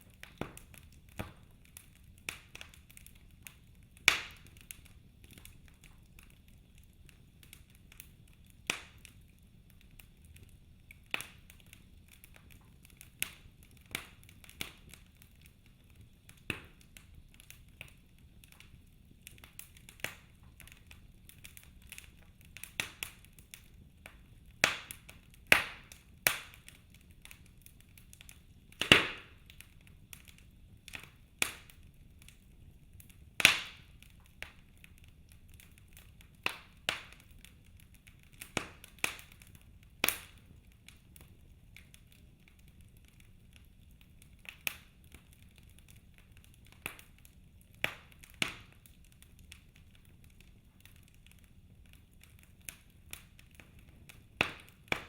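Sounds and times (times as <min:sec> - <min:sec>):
faint low hiss: 0:00.0 - 0:55.0
wood fire crackling: 0:00.0 - 0:55.0.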